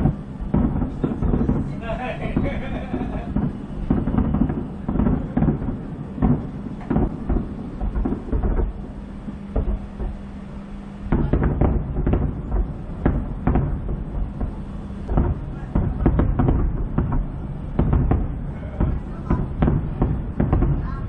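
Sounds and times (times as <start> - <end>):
distant fireworks bursting: 0.0 - 21.0
steady low hum: 0.0 - 21.0.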